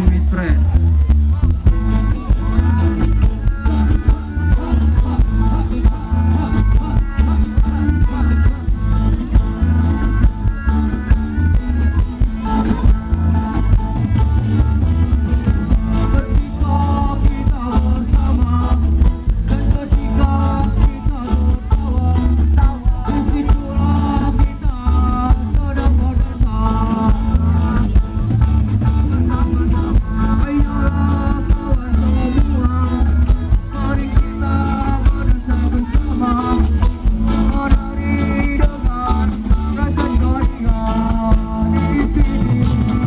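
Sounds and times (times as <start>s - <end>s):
loud music with heavy bass: 0.0s - 43.0s.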